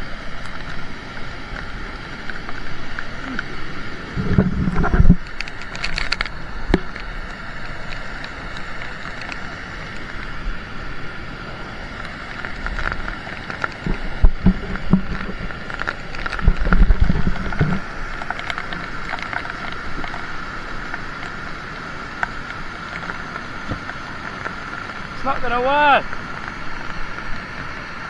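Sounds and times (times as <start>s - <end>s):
rain spattering: 0.0s - 28.0s
rushing white water: 0.0s - 28.0s
wind rumbling on microphone: 0.0s - 28.0s.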